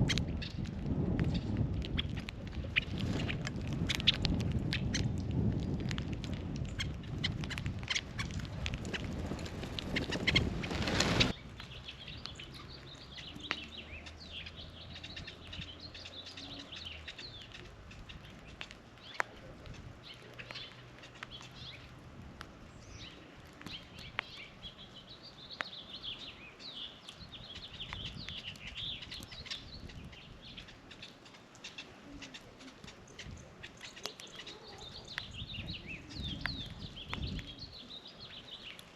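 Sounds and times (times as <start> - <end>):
rustling crackling noise: 0.0 - 38.9
small birds chirping: 0.0 - 38.9.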